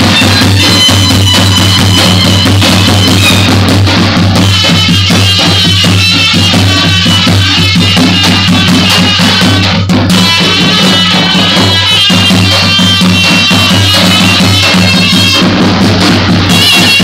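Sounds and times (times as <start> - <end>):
droning wind instrument melody: 0.0 - 3.6, 4.4 - 15.5
bass drum beaten in rhythm: 0.0 - 17.0.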